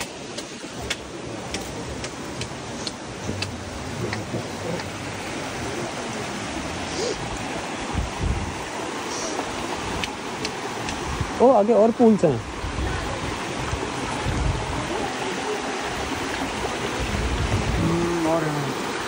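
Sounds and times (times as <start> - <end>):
creek water running over rocks: 0.0 - 19.0.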